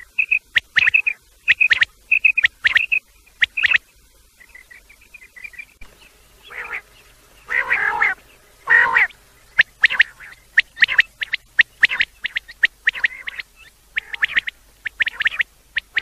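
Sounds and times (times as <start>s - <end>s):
quail calling: 0.0s - 3.8s, 4.4s - 16.0s.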